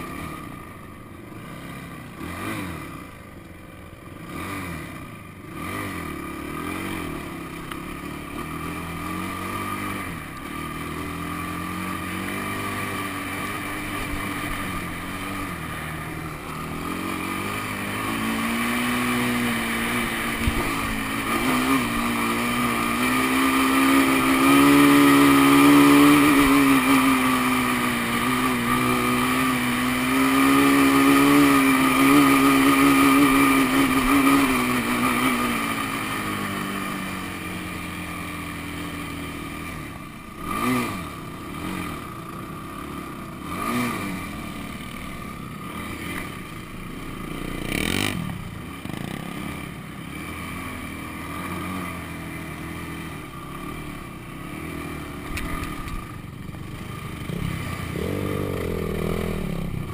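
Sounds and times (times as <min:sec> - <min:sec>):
quad engine revving: 0:00.0 - 0:03.3, 0:03.9 - 0:59.9.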